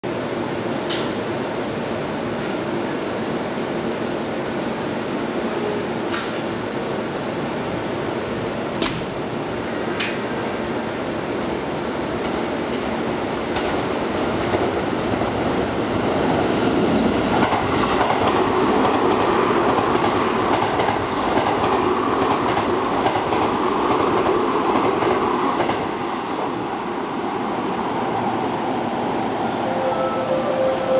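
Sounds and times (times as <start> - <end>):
electric train passing at speed: 0.1 - 30.9.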